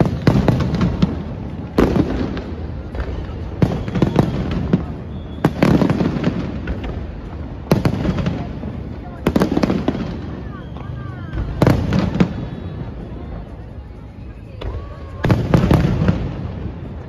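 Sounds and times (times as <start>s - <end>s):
fireworks bursting with loud bangs: 0.0s - 17.0s
fireworks pops and crackling: 0.0s - 17.0s.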